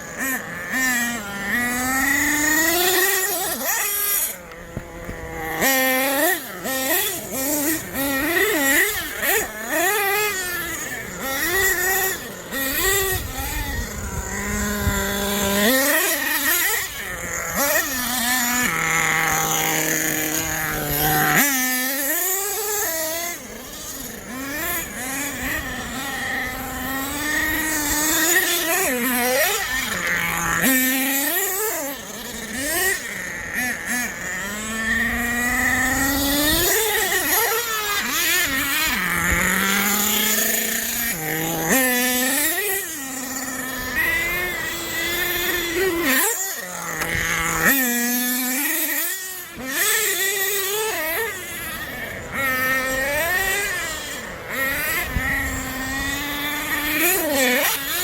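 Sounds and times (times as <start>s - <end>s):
nitro engine revving and idling: 0.0s - 58.0s.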